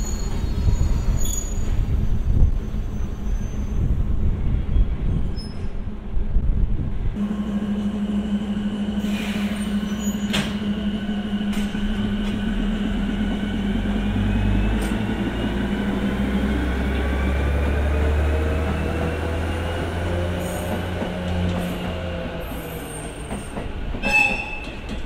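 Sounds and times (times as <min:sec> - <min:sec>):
electric train hum and whine: 0:00.0 - 0:25.0.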